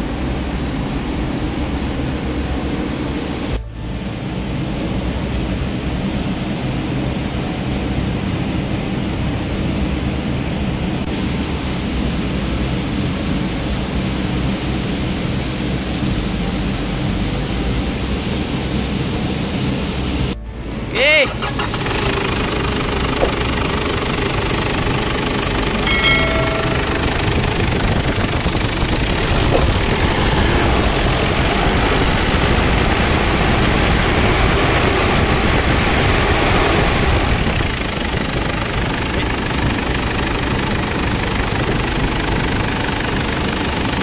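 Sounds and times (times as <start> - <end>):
engine idling with knocking clatter: 0.0 - 44.0.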